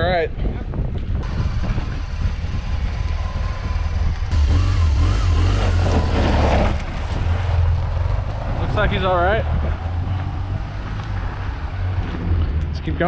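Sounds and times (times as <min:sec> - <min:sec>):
vehicle engine rumbling: 0:00.4 - 0:13.0.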